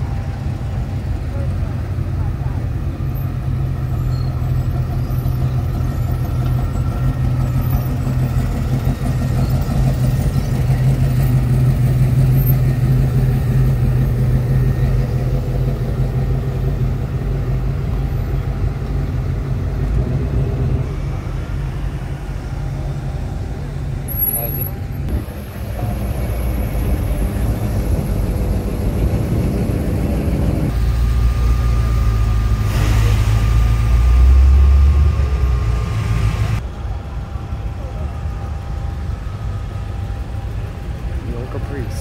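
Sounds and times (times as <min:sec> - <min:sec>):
car engines rolling past: 0:00.0 - 0:42.0.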